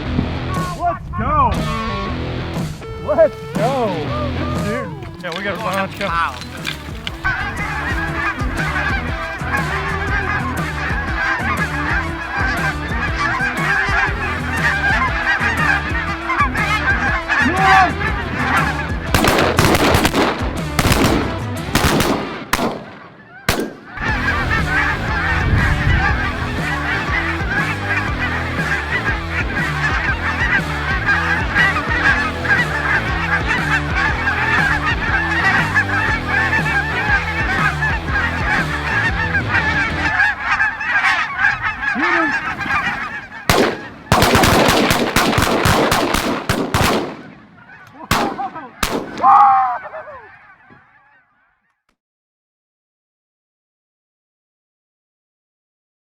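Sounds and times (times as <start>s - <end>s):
flock of geese honking: 0.1s - 51.8s.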